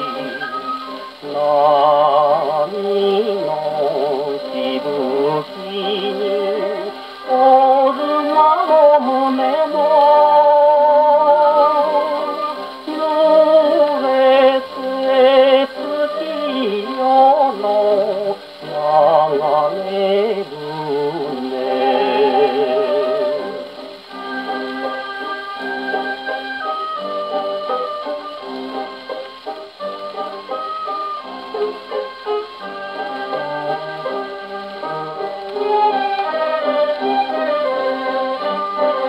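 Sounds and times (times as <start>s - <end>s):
popular song on gramophone: 0.0s - 39.0s.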